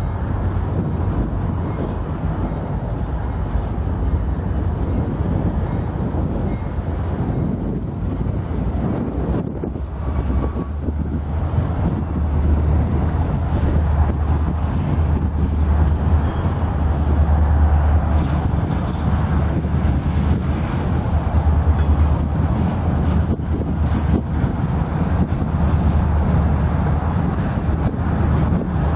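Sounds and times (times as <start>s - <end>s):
diesel locomotives idling: 0.0s - 28.9s
wind buffeting microphone: 0.0s - 28.9s.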